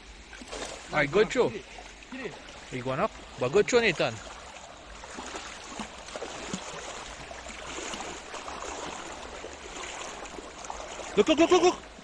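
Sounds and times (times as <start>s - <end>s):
river water flowing over stones: 0.0s - 12.0s.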